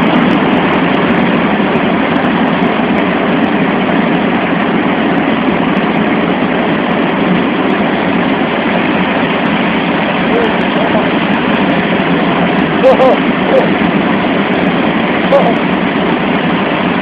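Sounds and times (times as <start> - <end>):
airflow noise: 0.0 - 17.0
jet engines droning: 0.0 - 17.0.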